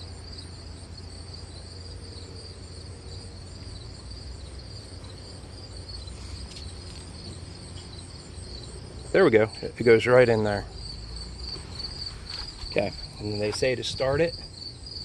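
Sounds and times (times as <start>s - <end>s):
crickets chirping: 0.0s - 15.0s
low steady hum: 0.0s - 15.0s.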